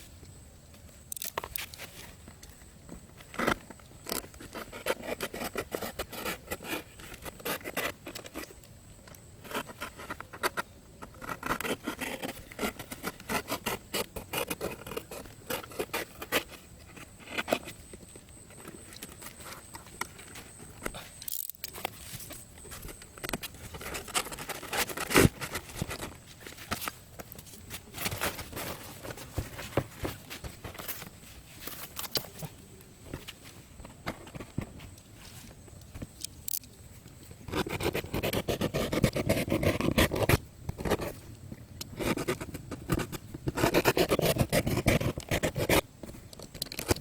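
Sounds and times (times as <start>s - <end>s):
hands scraping and tapping materials: 1.0s - 47.0s.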